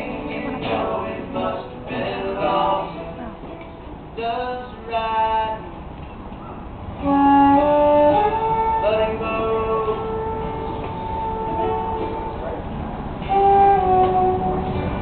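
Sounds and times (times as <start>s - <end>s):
live band music with singing: 0.0s - 5.7s, 7.0s - 15.0s.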